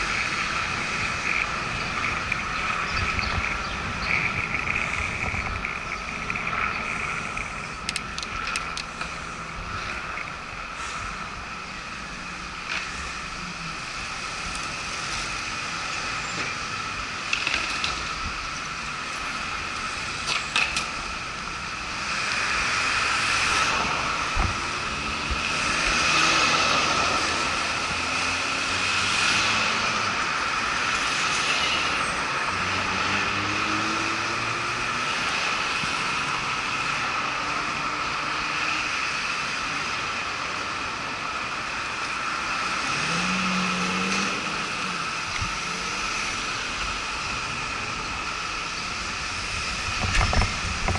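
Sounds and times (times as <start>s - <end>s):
cars passing and accelerating: 0.0s - 50.9s
road and wind noise: 0.0s - 50.9s.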